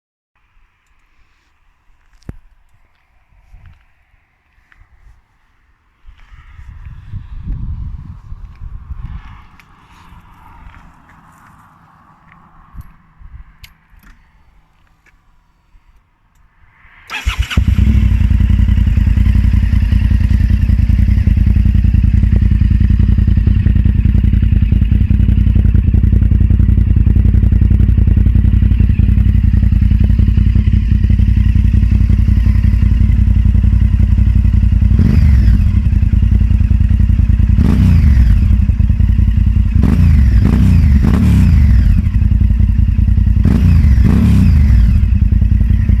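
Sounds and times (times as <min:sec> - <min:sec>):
motorcycle engine idling and revving: 0:02.0 - 0:16.5, 0:17.1 - 0:46.0.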